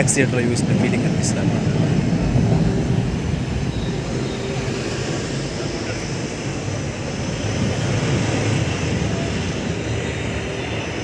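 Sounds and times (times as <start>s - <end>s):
terminal hall rumble and hum: 0.0s - 11.0s.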